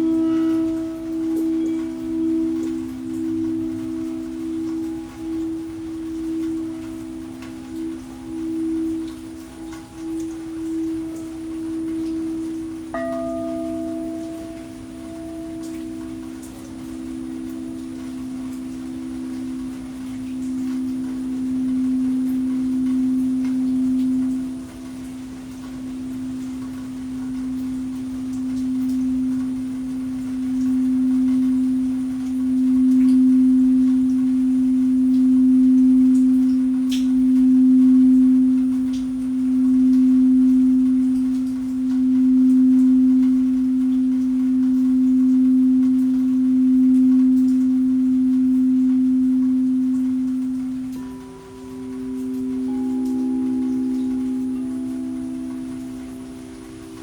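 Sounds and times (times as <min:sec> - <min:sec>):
higher singing bowl tone: 0:00.0 - 0:57.0
singing bowl low tone: 0:00.0 - 0:57.0.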